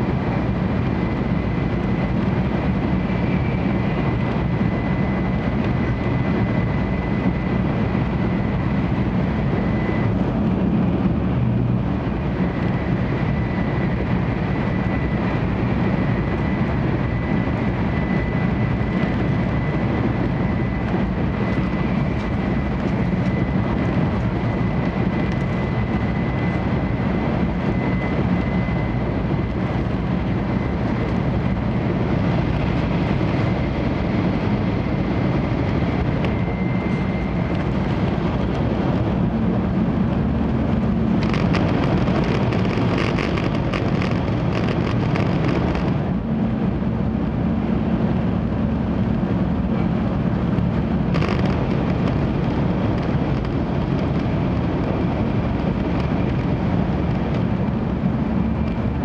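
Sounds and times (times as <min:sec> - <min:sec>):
low rumble of train wheels: 0:00.0 - 0:59.0.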